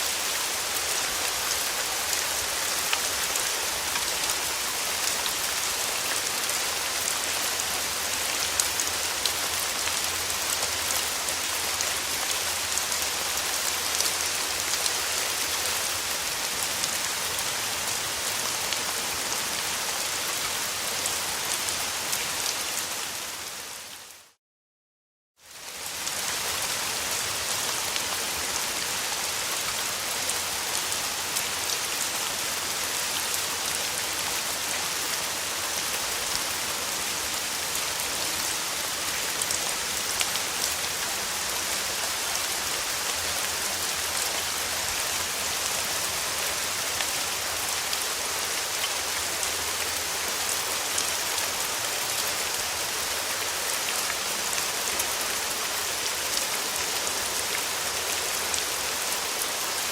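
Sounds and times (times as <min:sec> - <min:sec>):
rain falling: 0:00.0 - 0:24.4, 0:25.5 - 0:59.9.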